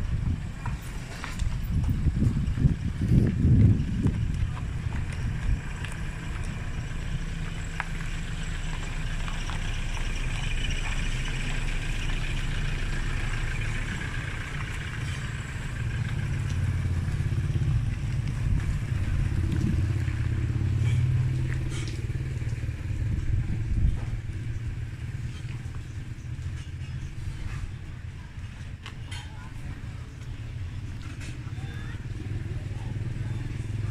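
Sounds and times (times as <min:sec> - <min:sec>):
vehicle engines humming: 0:00.0 - 0:33.9.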